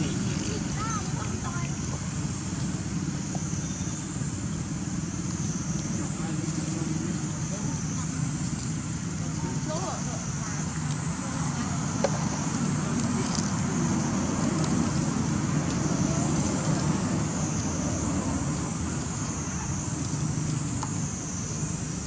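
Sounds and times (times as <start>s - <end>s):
high wavering hiss: 0.0s - 22.0s.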